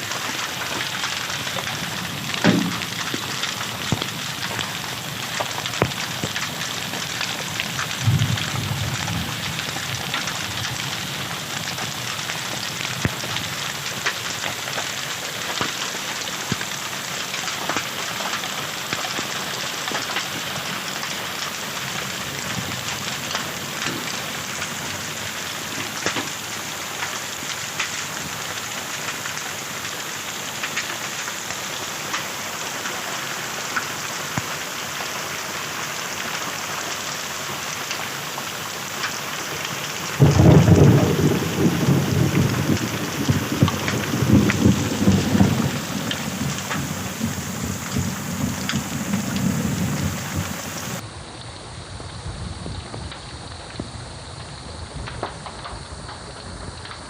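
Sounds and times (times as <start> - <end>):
hailstones ticking on hard surfaces: 0.0 - 51.0, 52.0 - 57.0
heavy rain: 0.0 - 57.0.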